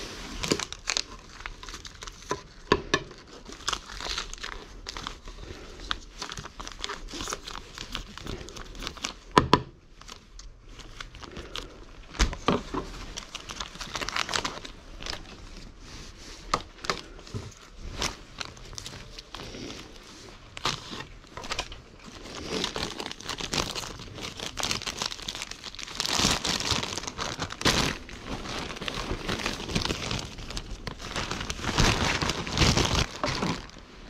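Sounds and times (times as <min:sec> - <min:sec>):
foil pouch crinkling: 0:00.0 - 0:02.6, 0:03.2 - 0:09.3, 0:12.9 - 0:15.4, 0:17.0 - 0:34.0.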